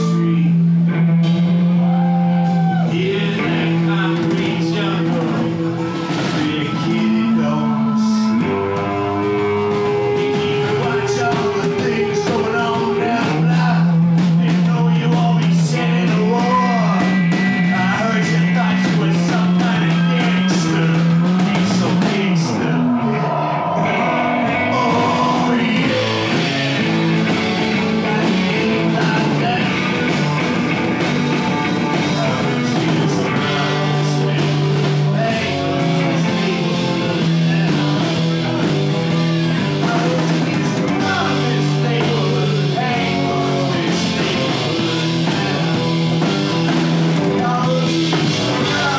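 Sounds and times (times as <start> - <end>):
man singing into microphone: 0.0 - 0.7, 2.7 - 46.6, 47.2 - 48.9
live rock band playing: 0.0 - 48.9.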